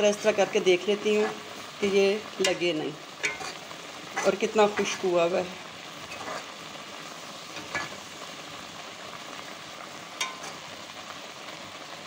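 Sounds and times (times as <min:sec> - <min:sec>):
milk sizzling and bubbling in pot: 0:00.0 - 0:12.0.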